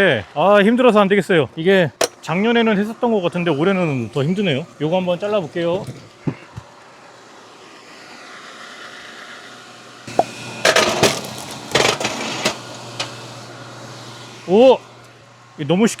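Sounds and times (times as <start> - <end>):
log splitter running up: 0.0 - 16.0
motor hum: 2.0 - 16.0.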